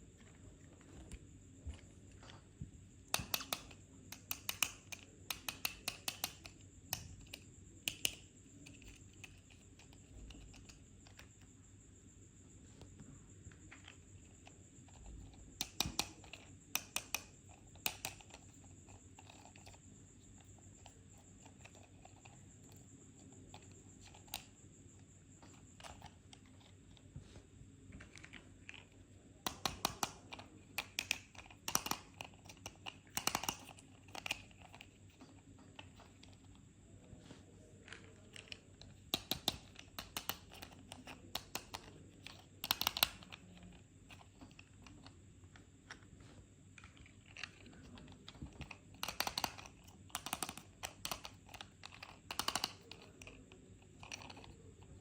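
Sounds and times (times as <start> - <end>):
plastic toy cars clicking: 3.1 - 11.5, 13.5 - 27.1, 27.9 - 36.6, 37.8 - 55.0.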